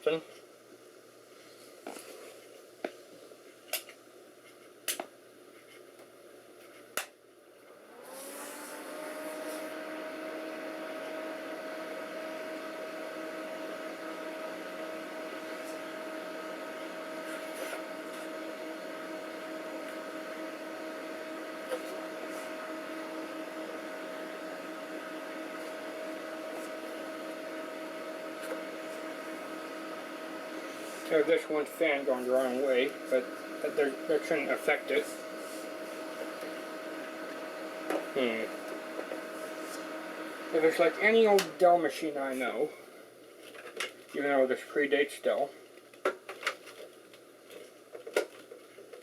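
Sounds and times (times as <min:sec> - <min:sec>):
computer fans whirring: 0:01.5 - 0:49.0.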